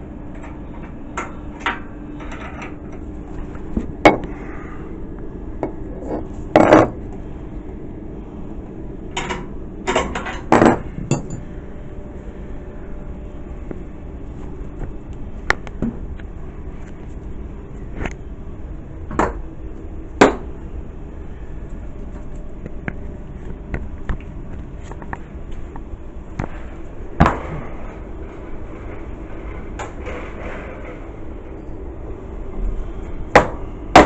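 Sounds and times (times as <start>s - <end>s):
low machinery hum: 0.0s - 34.0s.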